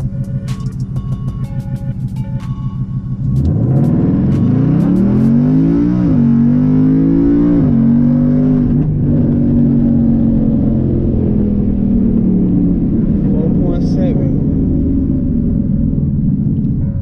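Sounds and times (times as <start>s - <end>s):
car engine accelerating at full throttle: 0.0s - 17.0s.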